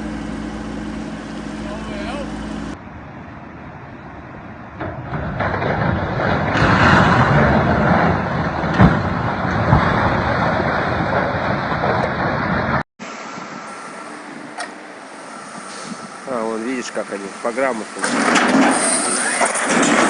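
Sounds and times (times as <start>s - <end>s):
heavy machine running: 0.0s - 2.8s, 4.8s - 20.0s.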